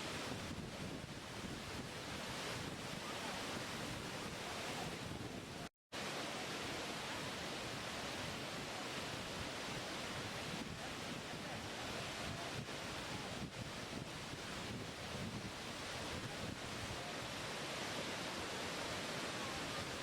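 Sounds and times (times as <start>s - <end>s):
waterfall rushing: 2.1s - 5.2s, 6.0s - 20.0s.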